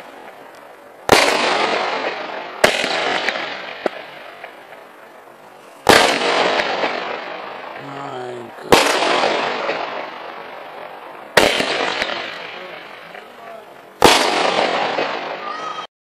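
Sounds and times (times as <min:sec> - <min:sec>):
firework shots bursting: 0:00.0 - 0:15.8.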